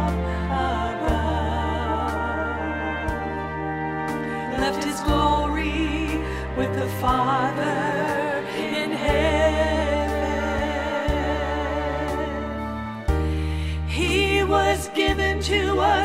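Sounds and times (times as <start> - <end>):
person singing with vibrato: 0.0 - 12.9
sustained bass notes: 0.0 - 16.0.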